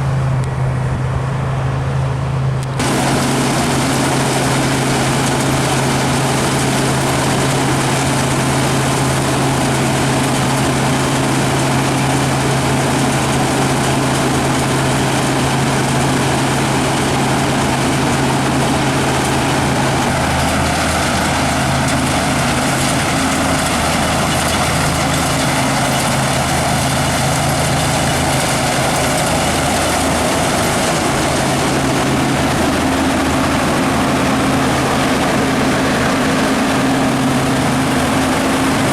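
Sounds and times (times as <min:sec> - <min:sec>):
combine harvester engine hum: 0:00.0 - 0:38.9
threshing machinery: 0:02.6 - 0:38.9.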